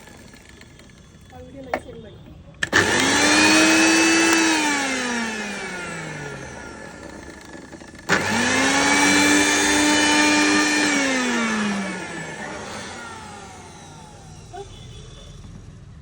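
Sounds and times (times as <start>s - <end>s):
mixer grinder motor whining: 0.0s - 16.0s.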